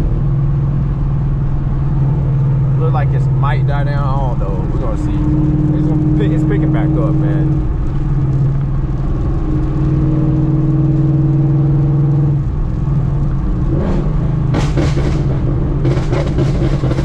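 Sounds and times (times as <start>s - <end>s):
car engine drone from inside cabin: 0.0s - 17.0s
exhaust crackling pops: 2.4s - 17.0s.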